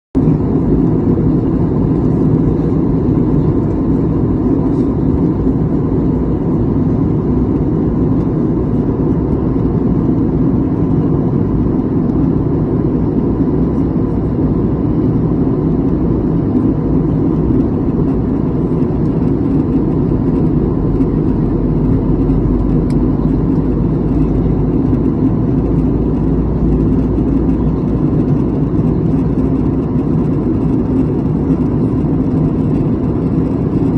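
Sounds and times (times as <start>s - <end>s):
moving car rumble: 0.2s - 33.9s.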